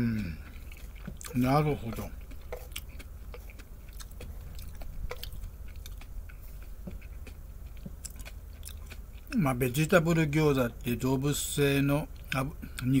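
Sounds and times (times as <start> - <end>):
person chewing food: 0.0 - 10.1, 12.1 - 13.0
steady low rumble: 0.0 - 13.0.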